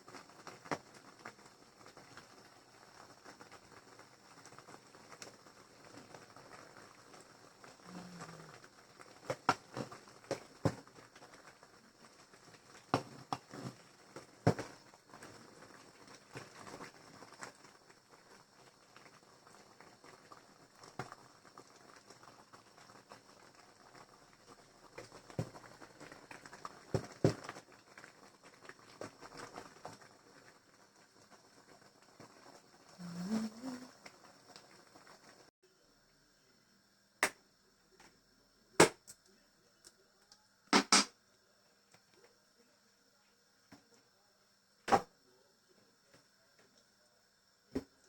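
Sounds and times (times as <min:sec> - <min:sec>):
low steady hiss: 0:00.0 - 0:48.0.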